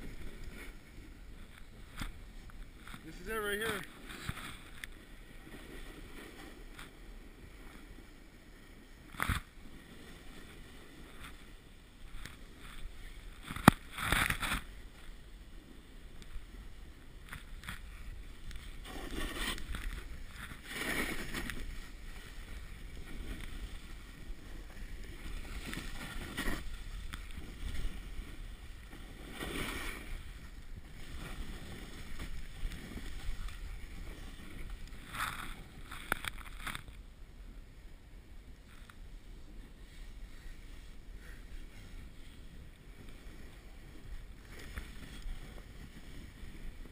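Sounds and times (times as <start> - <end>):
snowboard carving through snow: 0.0 - 36.1, 37.5 - 46.9.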